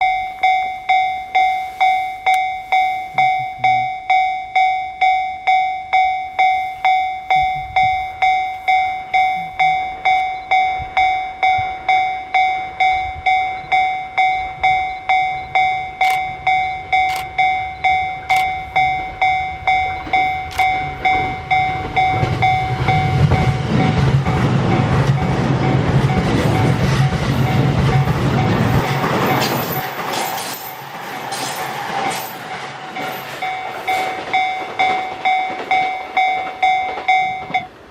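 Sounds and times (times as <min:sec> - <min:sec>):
level crossing warning bell: 0:00.0 - 0:37.9
train rumble: 0:05.9 - 0:37.9.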